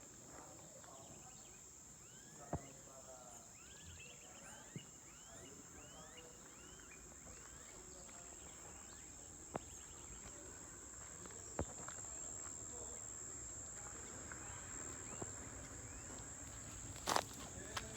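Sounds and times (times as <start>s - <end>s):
birds chirping: 0.3s - 17.9s.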